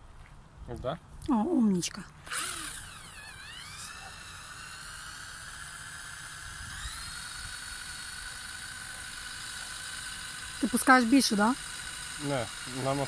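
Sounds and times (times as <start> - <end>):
cordless drill motor whining: 2.1 - 13.0.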